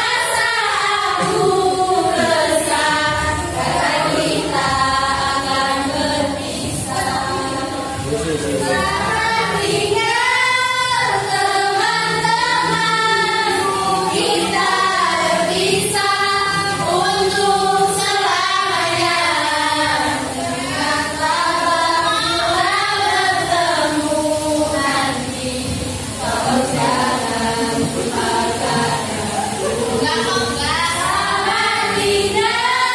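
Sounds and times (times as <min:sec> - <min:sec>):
group of young voices singing: 0:00.0 - 0:32.9.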